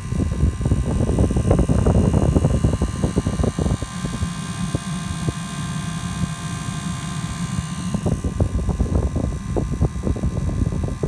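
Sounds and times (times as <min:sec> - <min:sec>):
heater combustion rumble: 0:00.0 - 0:11.0
thin steady whine: 0:00.0 - 0:11.0.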